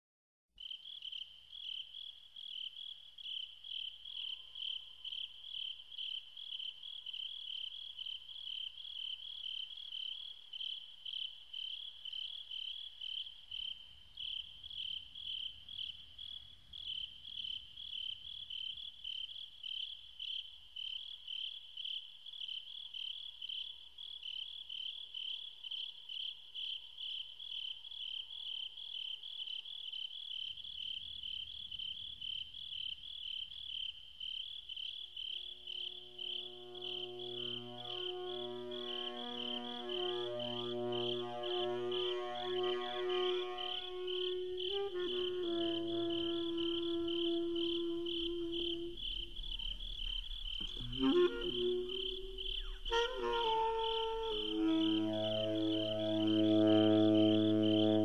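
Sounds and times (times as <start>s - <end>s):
insect chirping: 0.6s - 58.0s.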